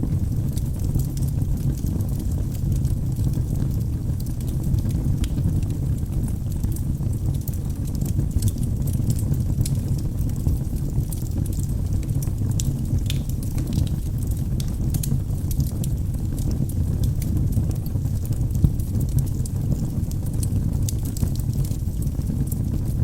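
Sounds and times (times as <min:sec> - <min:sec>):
logs burning in fireplace: 0:00.0 - 0:23.0.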